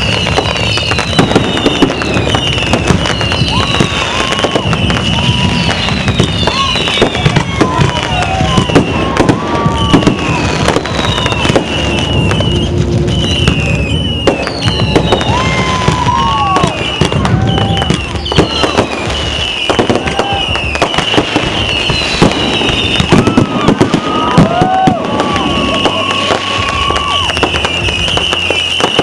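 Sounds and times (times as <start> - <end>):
firework whistles: 0.0 - 29.0
fireworks cracking and popping: 0.0 - 29.0.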